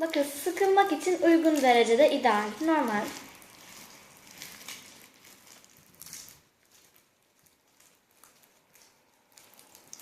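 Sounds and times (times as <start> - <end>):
slime squelching in hands: 0.0 - 10.0.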